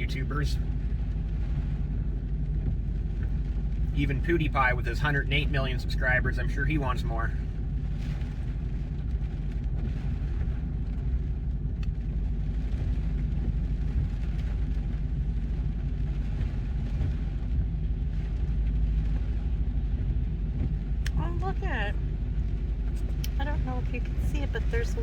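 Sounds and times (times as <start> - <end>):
car engine rumble: 0.0 - 25.0
tyres on wet pavement: 0.0 - 25.0.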